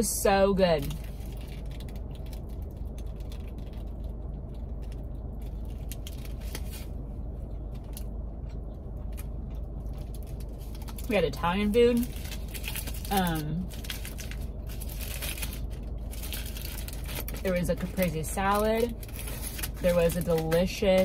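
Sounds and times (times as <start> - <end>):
steady low hum: 0.0 - 21.0
foil wrapper crinkling: 0.8 - 7.0, 9.1 - 21.0.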